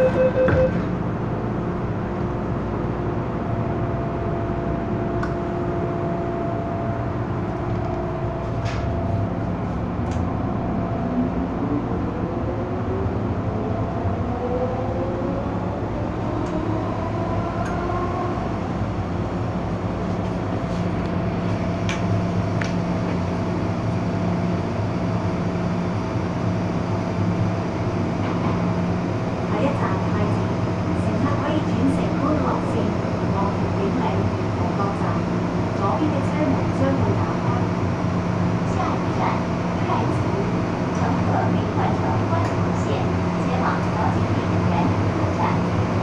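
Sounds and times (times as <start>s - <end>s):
electric train traction whine: 0.0s - 46.0s
train running rumble and hum: 0.0s - 46.0s.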